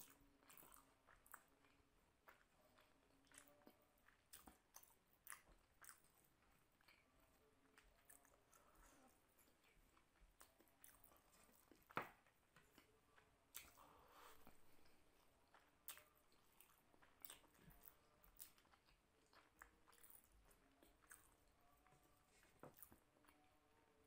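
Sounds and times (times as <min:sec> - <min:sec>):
person chewing with wet mouth sounds: 0:00.0 - 0:23.8.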